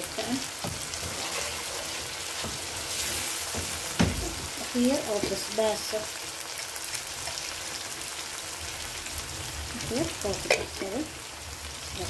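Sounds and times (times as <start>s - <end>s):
tomatoes sizzling in a pan: 0.0s - 12.0s.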